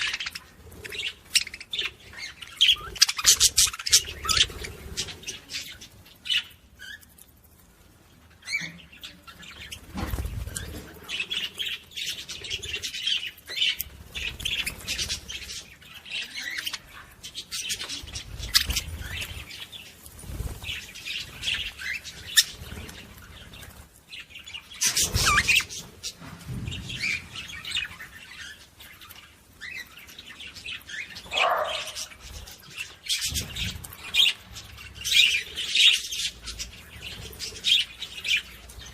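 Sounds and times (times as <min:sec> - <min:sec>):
parrots chirping and squawking: 0:00.0 - 0:07.3, 0:08.3 - 0:38.9.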